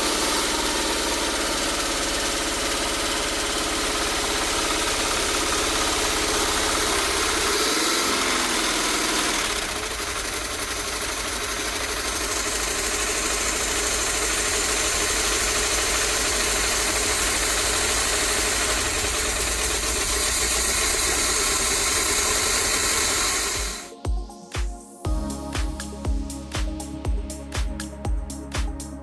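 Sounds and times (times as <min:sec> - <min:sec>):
engine idling: 0:00.0 - 0:23.9.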